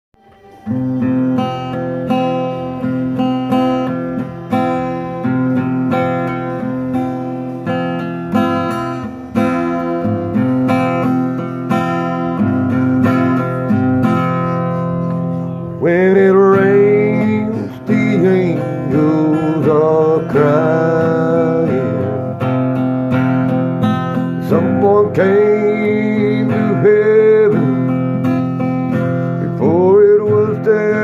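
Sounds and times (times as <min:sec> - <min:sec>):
acoustic guitar strumming: 0:00.2 - 0:31.0.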